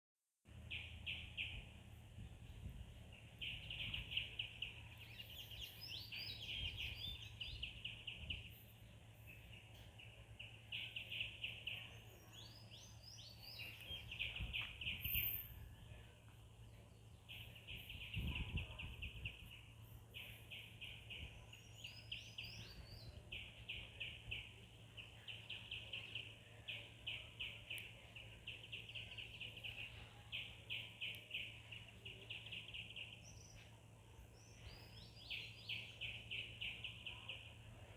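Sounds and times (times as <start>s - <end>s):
birds trilled chirps: 0.5s - 37.9s.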